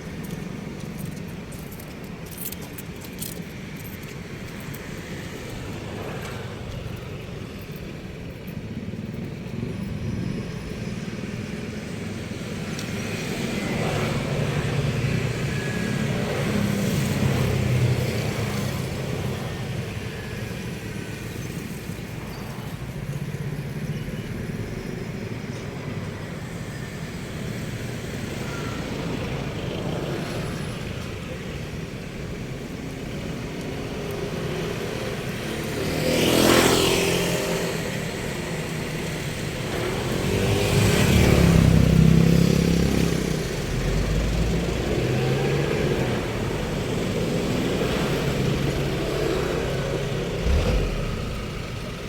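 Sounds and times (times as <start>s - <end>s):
passing vehicles rumbling: 0.0s - 52.0s.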